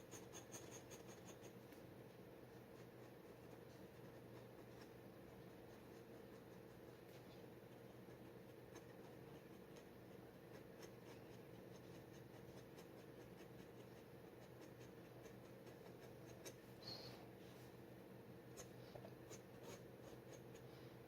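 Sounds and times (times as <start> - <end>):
dip pen scratching on paper: 0.0 - 1.6, 2.5 - 16.6, 18.5 - 20.7
faint steady hum: 0.0 - 21.0.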